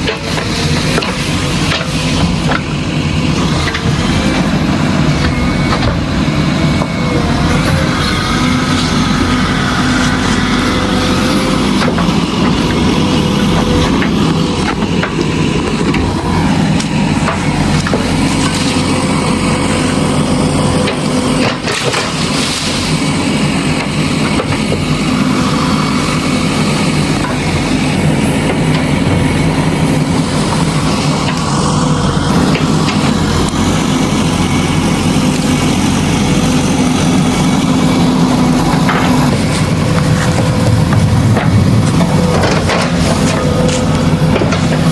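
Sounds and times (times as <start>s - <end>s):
heavy machinery diesel engines: 0.0s - 44.9s.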